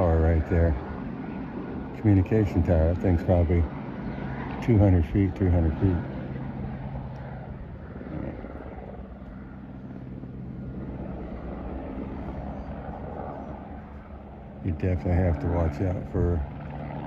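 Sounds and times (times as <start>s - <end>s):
helicopter rotor flutter: 0.0s - 17.0s.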